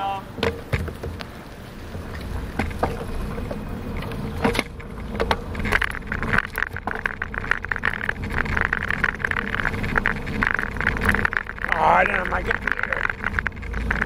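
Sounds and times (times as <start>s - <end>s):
bicycle tyre rumble: 0.0s - 14.0s
bike rattling on brick pavement: 0.0s - 14.0s
clicks and knocks from bumps: 2.2s - 14.0s.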